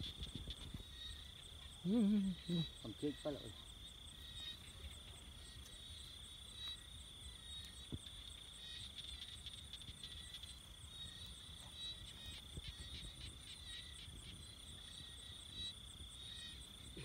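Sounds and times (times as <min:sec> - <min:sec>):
crickets trilling: 0:00.0 - 0:17.0
higher pulsing insect trill: 0:00.0 - 0:17.0.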